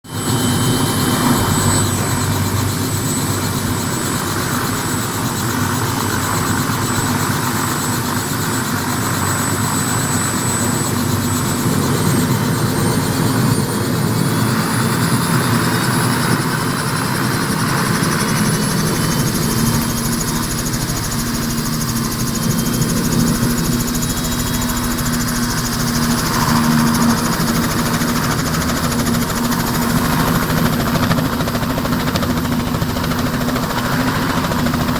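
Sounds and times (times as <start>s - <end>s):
helicopter rotor throb: 0.0s - 34.9s
helicopter turbine whine: 0.0s - 34.9s.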